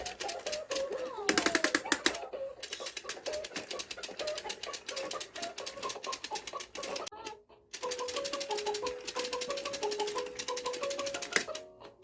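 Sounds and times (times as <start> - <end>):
electronic toy rapid clicking: 0.0 - 11.7.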